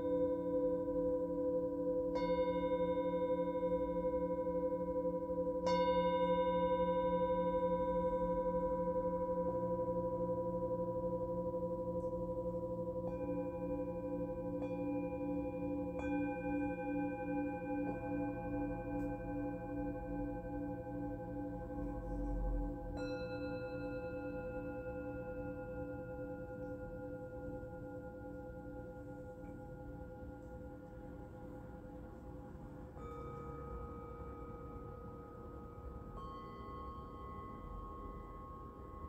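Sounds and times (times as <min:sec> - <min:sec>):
singing bowls ringing: 0:00.0 - 0:39.0.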